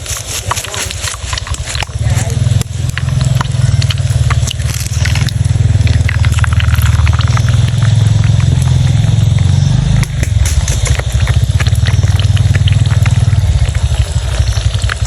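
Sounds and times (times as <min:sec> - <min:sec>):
engine running with low pulsing: 0:00.0 - 0:15.0.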